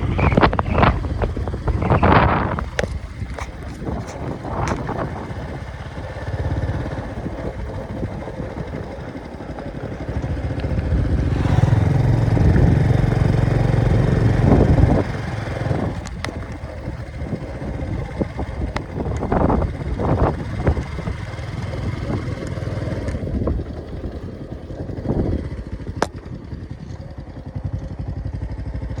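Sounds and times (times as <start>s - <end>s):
road noise: 0.0s - 29.0s
vehicle engine rumble: 0.0s - 29.0s.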